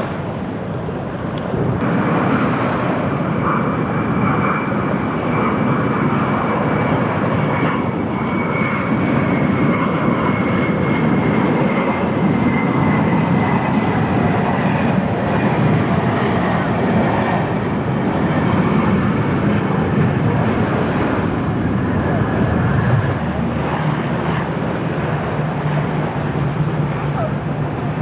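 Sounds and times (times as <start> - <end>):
airliner engines rumbling and whining: 0.0 - 28.0.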